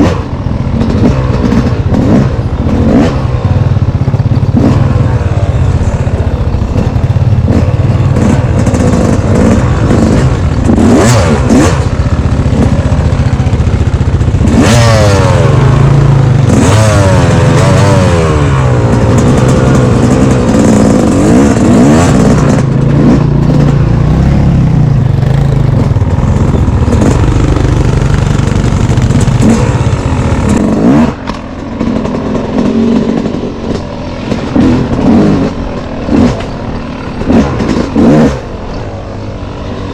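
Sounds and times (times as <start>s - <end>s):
off-road vehicle engine revving: 0.0s - 38.8s.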